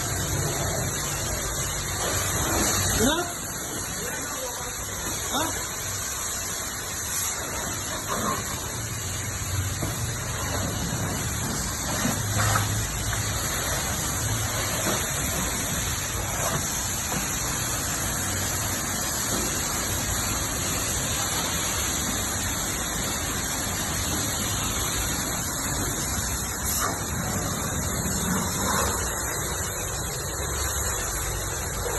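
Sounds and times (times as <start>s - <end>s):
water spray hissing: 0.0s - 31.9s.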